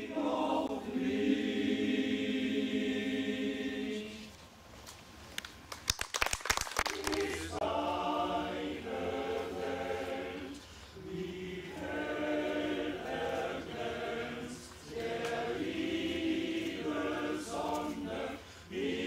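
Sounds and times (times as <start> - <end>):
choir singing: 0.0 - 4.4, 7.0 - 19.0.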